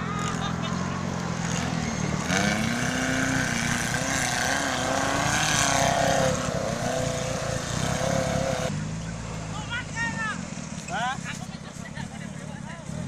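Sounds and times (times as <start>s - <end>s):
engine revving under load: 0.0s - 10.8s.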